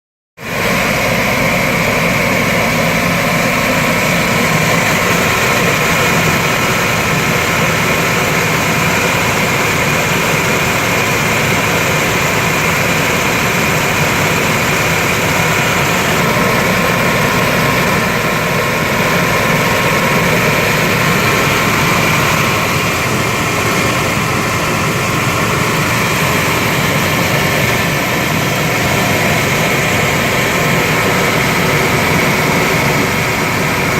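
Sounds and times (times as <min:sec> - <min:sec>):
car engine idling with whine: 0:00.4 - 0:33.9.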